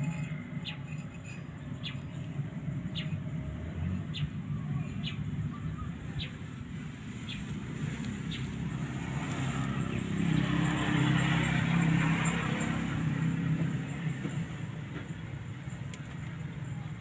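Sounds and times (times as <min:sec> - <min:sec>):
vehicle engine and exhaust: 0:00.0 - 0:17.0.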